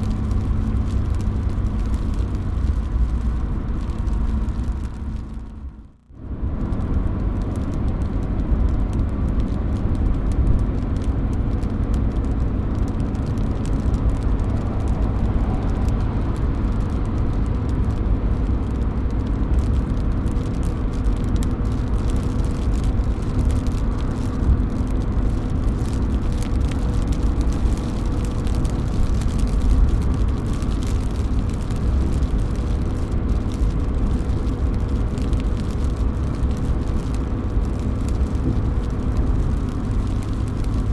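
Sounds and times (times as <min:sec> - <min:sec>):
rain dripping off roof edge: 0:00.0 - 0:40.9
steady low rumble: 0:00.0 - 0:40.9.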